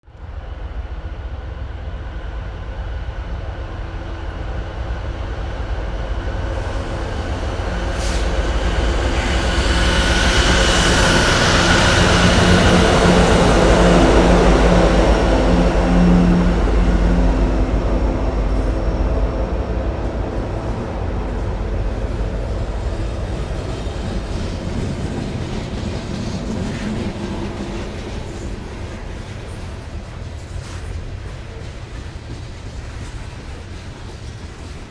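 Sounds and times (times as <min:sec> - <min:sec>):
diesel locomotive engine drone: 0:00.0 - 0:34.9
train hoppers rolling by: 0:05.8 - 0:34.9.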